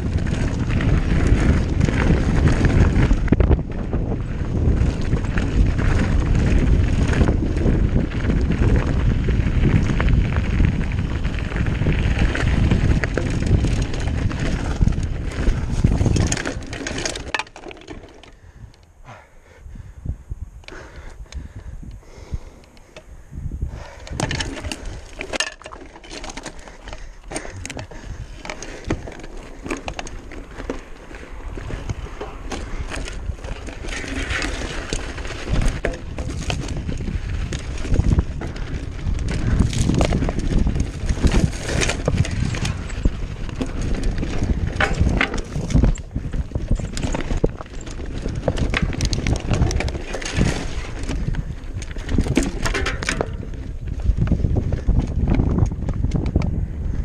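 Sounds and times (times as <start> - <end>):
tyres crunching over stones: 0.0 - 18.4, 24.1 - 56.5
bike rattling and clicking: 0.0 - 19.9, 20.6 - 57.0.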